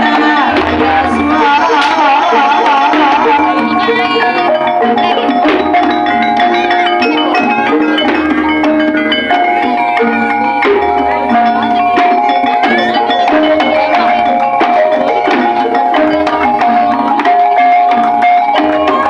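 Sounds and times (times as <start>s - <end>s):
hand drum strokes: 0.0s - 19.0s
struck metal percussion ringing: 0.0s - 19.0s.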